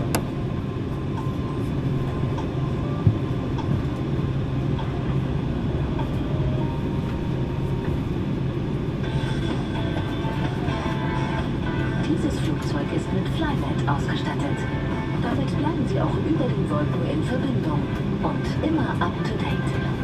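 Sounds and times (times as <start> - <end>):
engines rumbling and humming: 0.0 - 20.0.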